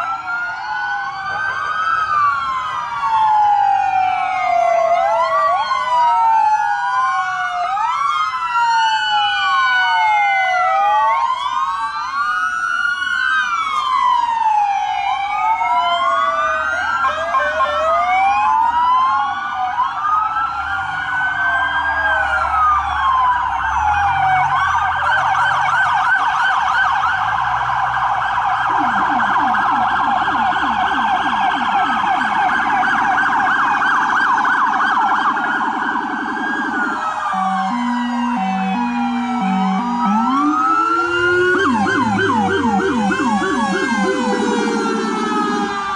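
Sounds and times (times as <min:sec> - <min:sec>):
low fast-pulsing siren: 0:00.0 - 0:45.9
police sirens wailing: 0:00.0 - 0:45.9.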